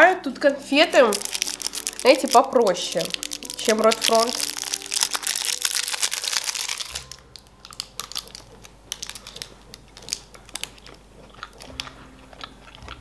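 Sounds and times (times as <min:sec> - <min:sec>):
chewing candy: 0:00.9 - 0:13.0
mouth clicks and crunches: 0:01.0 - 0:13.0.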